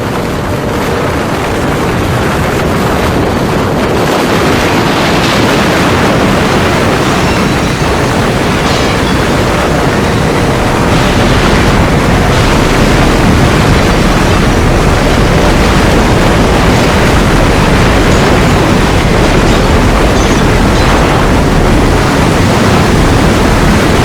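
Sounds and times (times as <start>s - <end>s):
loud rumbling rushing noise: 0.0s - 24.0s.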